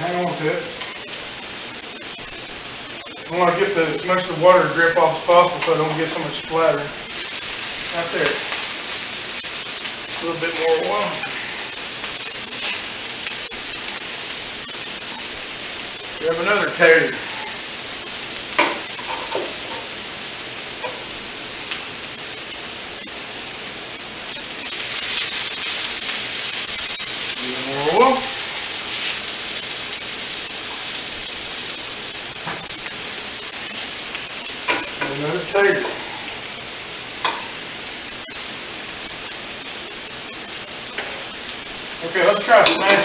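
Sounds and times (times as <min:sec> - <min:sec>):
food sizzling on a griddle: 0:00.0 - 0:43.0.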